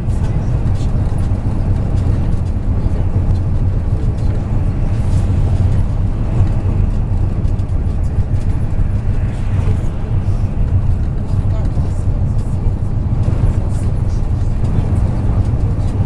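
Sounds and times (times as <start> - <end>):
bus engine and road noise: 0.0 - 16.0.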